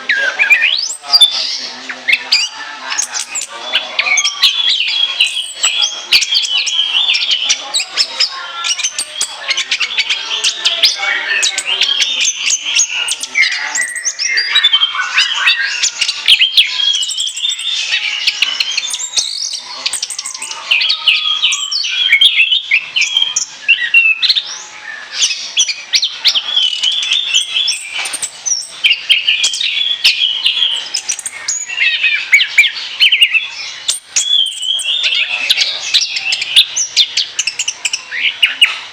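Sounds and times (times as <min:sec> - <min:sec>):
thrush singing: 0:00.0 - 0:38.9.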